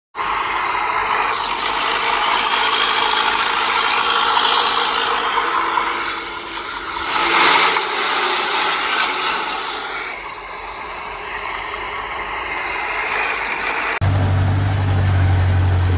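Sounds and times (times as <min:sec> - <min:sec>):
heavy earthmoving machinery running: 0:00.2 - 0:15.9.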